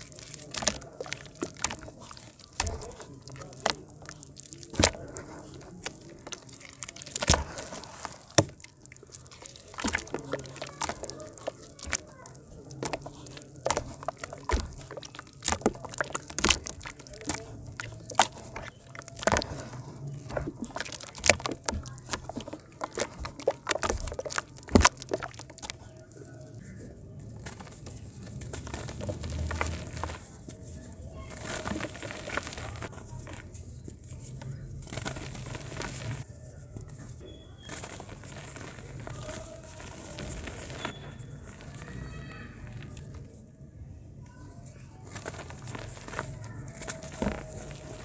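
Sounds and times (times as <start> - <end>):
water sloshing: 0.0 - 36.3, 45.1 - 48.0
wet mud squelches: 0.0 - 43.4, 44.7 - 48.0.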